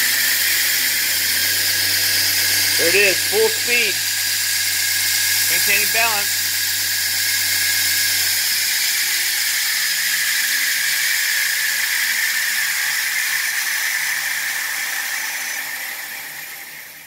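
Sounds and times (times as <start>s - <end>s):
belt grinder hiss and whine: 0.0s - 17.0s.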